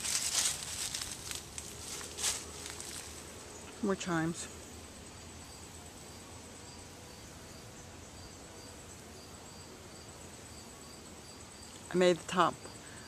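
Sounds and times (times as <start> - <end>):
high-pitched insect hum: 0.0 - 13.0
insect chirping: 0.0 - 13.0.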